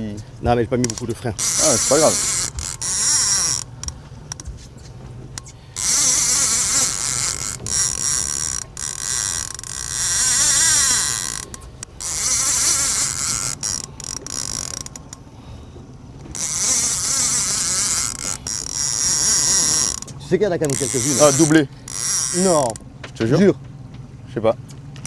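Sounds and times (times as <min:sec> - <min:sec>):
fishing reel drag buzzing: 0:00.7 - 0:22.9.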